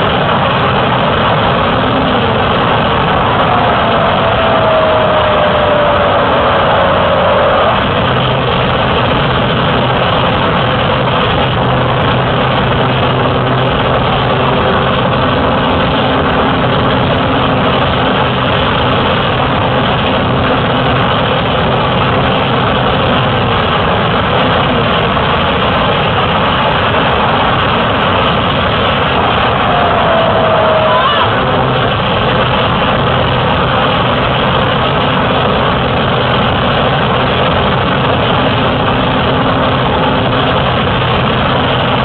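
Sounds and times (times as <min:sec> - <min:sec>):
light aircraft engine drone: 0:00.0 - 0:42.0.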